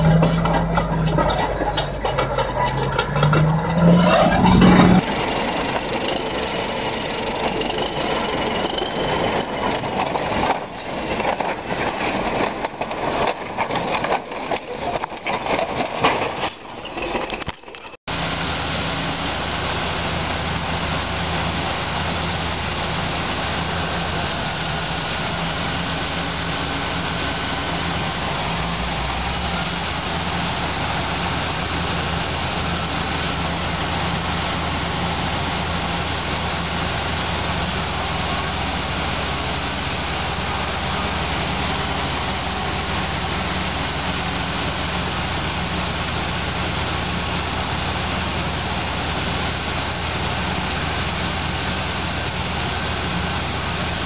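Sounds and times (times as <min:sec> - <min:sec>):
bulldozer diesel engines droning: 0:00.0 - 0:54.0
dense mechanical noise: 0:00.0 - 0:54.0.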